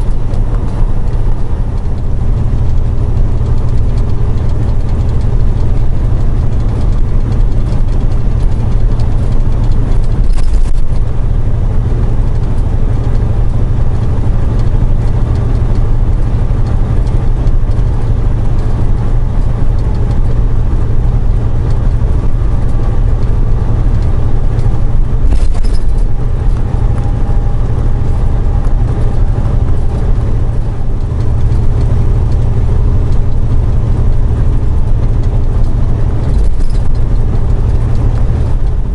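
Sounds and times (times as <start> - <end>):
road noise: 0.0 - 38.9
truck engine rumble: 0.0 - 38.9.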